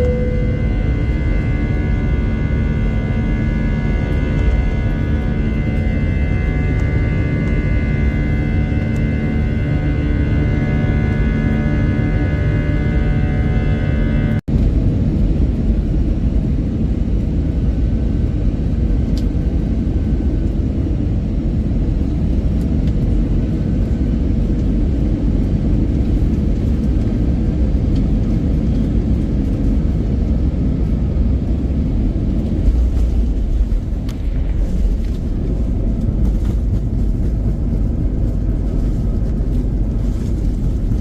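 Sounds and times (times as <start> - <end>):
airliner cabin engine rumble: 0.0 - 41.0.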